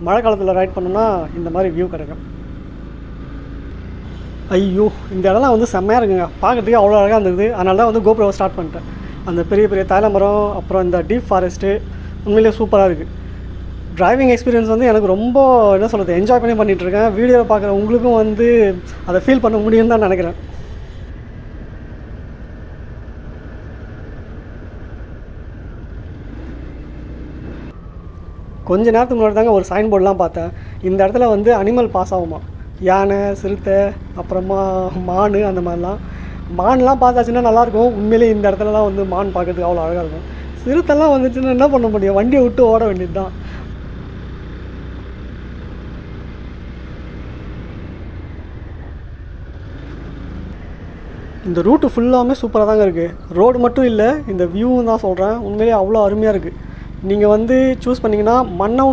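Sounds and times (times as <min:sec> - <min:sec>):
motorcycle engine cruising: 0:00.0 - 0:21.7, 0:22.3 - 0:58.9
wind and road noise: 0:00.0 - 0:58.9.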